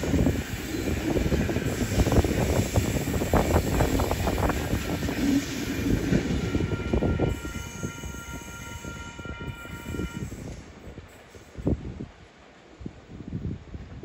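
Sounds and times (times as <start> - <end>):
train wheels rumbling over rails: 0.0 - 12.2.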